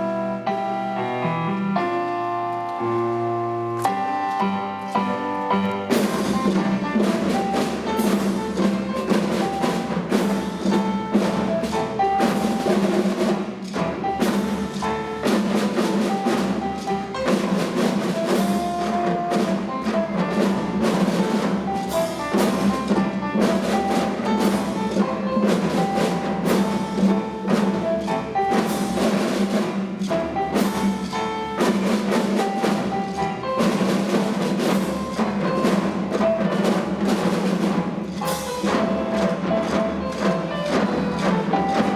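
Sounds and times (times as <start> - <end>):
mallet percussion melody: 0.0 - 41.9
drum strikes: 3.7 - 41.9.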